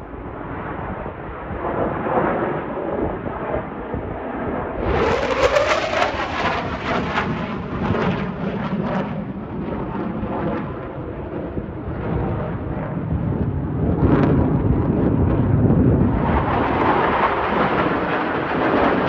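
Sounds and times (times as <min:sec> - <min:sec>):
jet roar with whine: 0:00.0 - 0:19.0.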